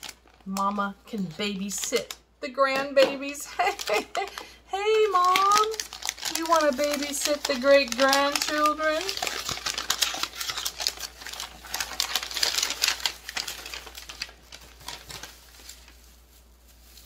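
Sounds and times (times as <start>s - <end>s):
wrapping paper crinkling: 0.0s - 2.2s, 2.8s - 17.0s.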